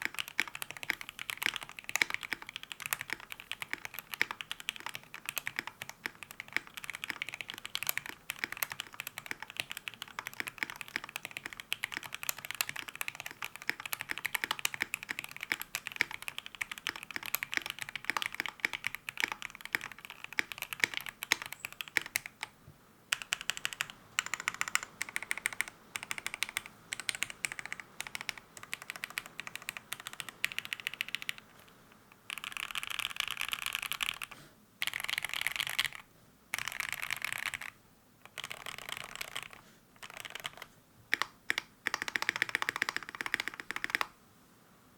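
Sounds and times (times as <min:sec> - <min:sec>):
mechanical keyboard typing: 0:00.0 - 0:22.5, 0:23.1 - 0:44.1.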